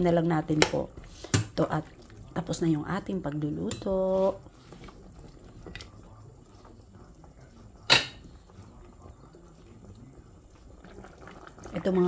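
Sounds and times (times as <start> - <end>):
soup bubbling: 0.0 - 12.0.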